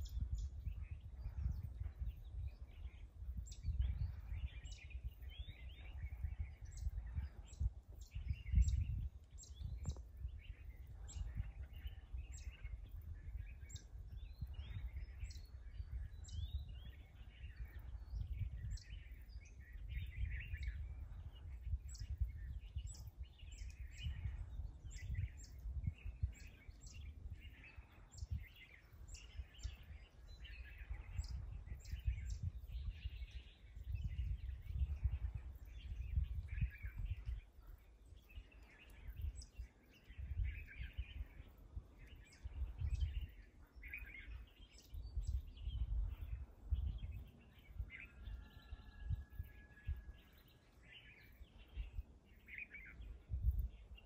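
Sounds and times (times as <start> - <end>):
wild birds chirping and singing: 0.0 - 54.0.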